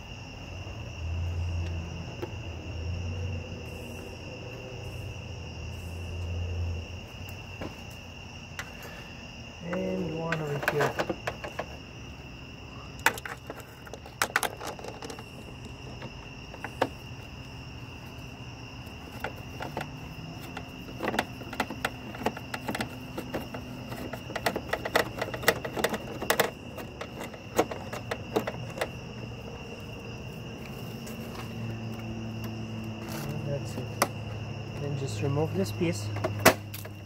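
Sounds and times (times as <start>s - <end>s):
high-pitched insect trill: 0.0s - 37.0s.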